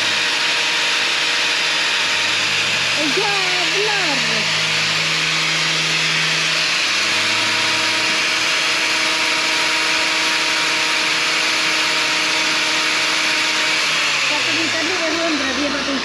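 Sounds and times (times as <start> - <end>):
grinder grinding hoof: 0.0 - 16.0
motor hum: 0.0 - 16.0.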